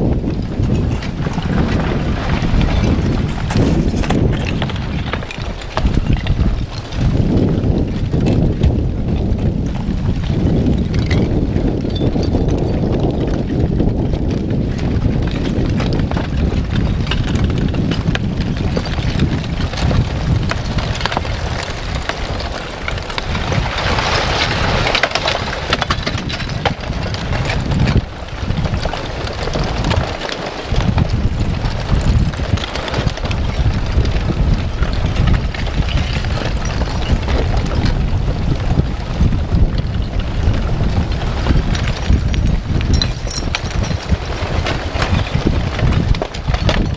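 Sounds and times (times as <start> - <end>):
lava blocks clinking and crackling: 0.0 - 46.9
wind buffeting microphone: 0.0 - 46.9.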